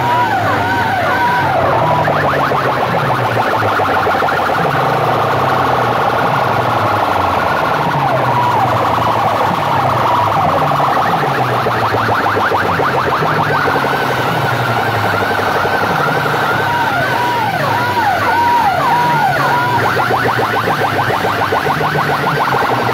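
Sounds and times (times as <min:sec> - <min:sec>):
falling electronic chirps: 0:00.0 - 0:22.9
falling electronic sweeps: 0:00.0 - 0:22.9
wavering siren tone: 0:00.0 - 0:22.9.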